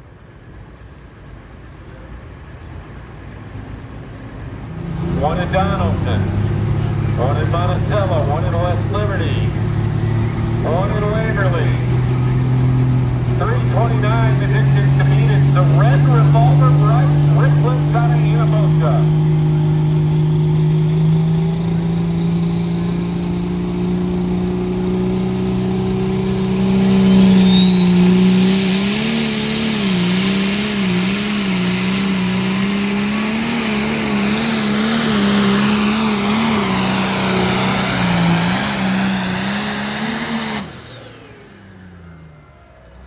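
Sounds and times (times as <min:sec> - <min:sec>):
tractor engine revving with whine: 0:00.0 - 0:43.0.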